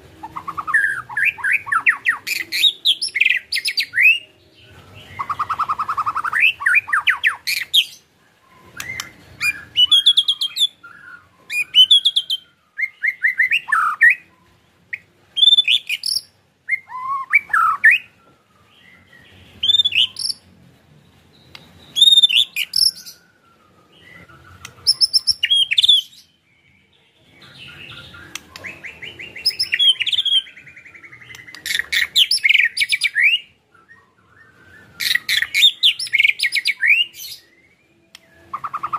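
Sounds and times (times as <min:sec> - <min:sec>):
bird singing whistled phrases: 0:00.2 - 0:04.3, 0:05.0 - 0:14.6, 0:15.4 - 0:20.4, 0:21.4 - 0:26.8, 0:27.4 - 0:38.9.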